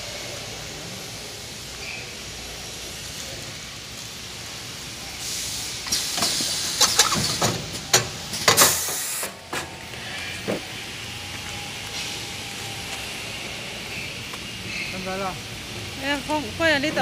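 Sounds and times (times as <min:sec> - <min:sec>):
machine air hiss: 0:00.0 - 0:17.0.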